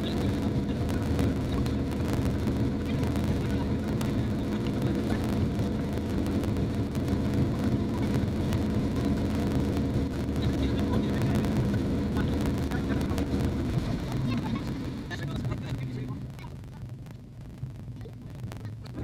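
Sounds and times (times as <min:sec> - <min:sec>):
rush of wind and water: 0:00.0 - 0:17.1
motorboat engine drone: 0:00.0 - 0:19.0.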